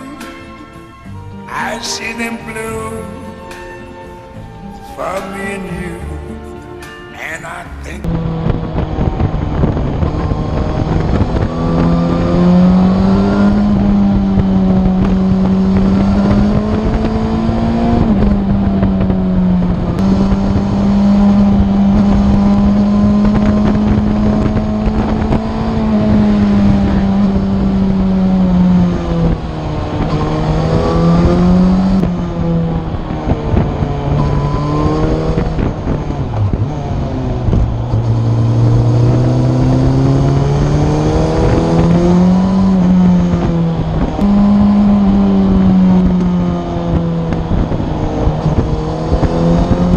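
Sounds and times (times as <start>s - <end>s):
motorcycle engine running: 8.0s - 49.9s
wind noise: 8.0s - 49.9s.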